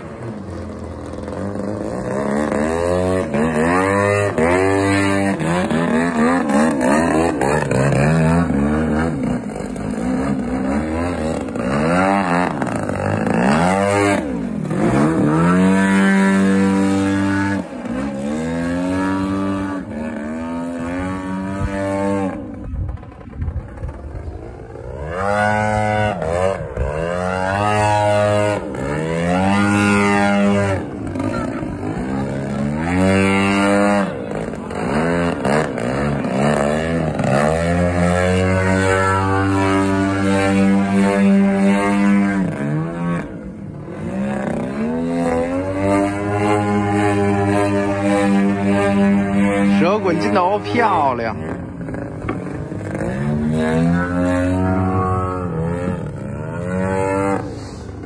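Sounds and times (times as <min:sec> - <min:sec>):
model airplane engine drone: 0:00.0 - 0:58.0.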